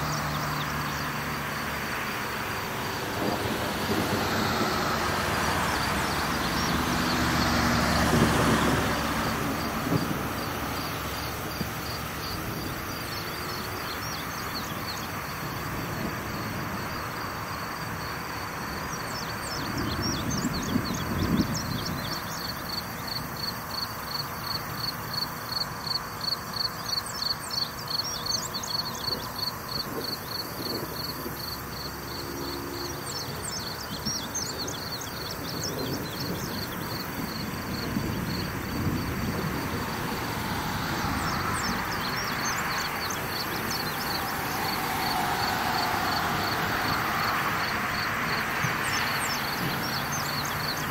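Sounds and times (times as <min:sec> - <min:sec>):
night insects chirping: 0:00.0 - 0:50.9.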